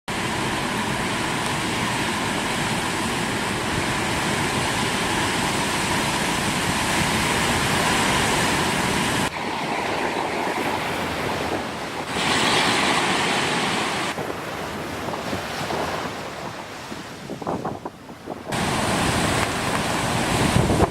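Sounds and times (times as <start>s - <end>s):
heavy surf: 0.1s - 20.9s
wind gusts buffeting microphone: 0.1s - 20.9s.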